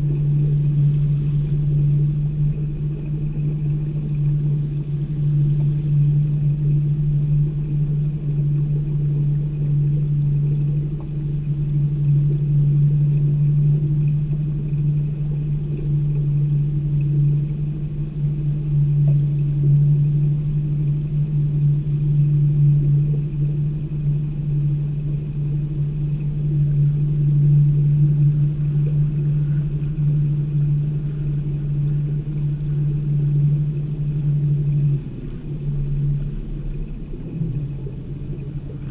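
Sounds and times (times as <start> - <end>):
boat motor droning: 0.0 - 38.9.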